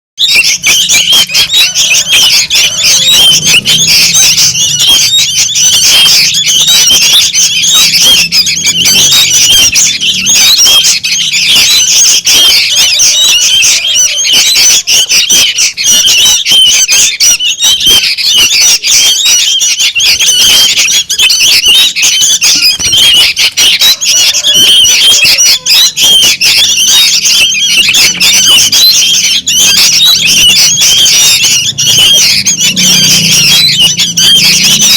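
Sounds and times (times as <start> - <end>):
flock of birds chirping: 0.2 - 34.9.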